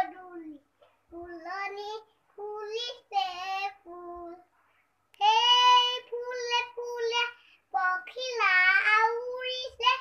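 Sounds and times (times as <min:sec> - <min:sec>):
girl singing unaccompanied: 0:00.0 - 0:10.0.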